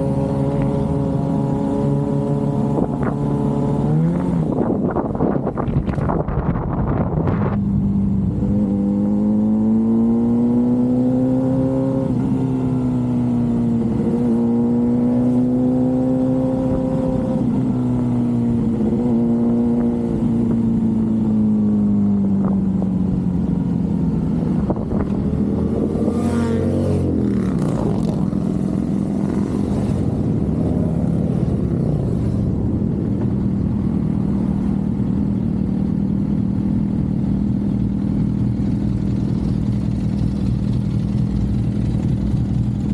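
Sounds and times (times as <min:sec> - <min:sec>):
motorcycle engine cruising: 0:00.0 - 0:42.9.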